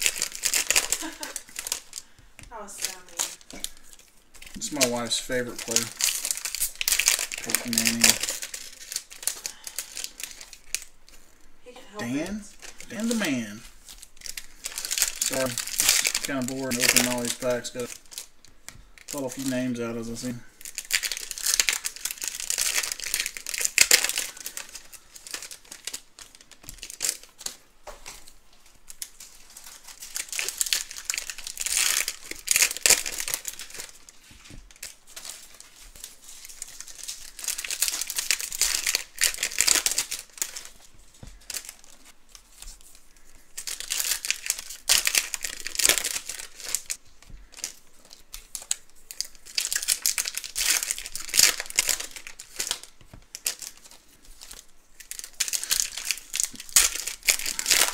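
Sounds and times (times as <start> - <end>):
foil wrappers tearing and crinkling: 0.0 - 11.4, 12.0 - 57.9.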